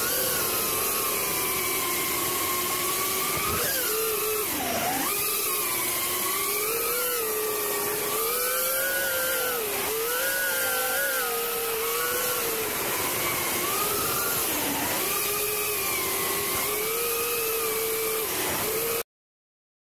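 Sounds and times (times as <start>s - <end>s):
quadcopter motors whining: 0.0s - 19.1s.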